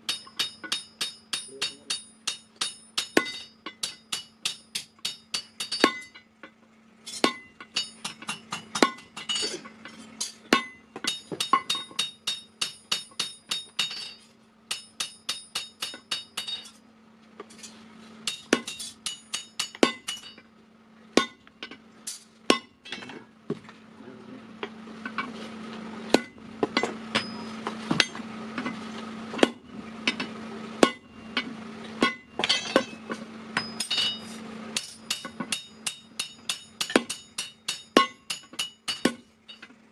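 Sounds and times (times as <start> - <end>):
hammer striking steel on anvil: 0.0 - 6.3, 7.0 - 16.8, 17.5 - 20.5, 21.2 - 23.1, 26.1 - 28.8, 29.4 - 39.7.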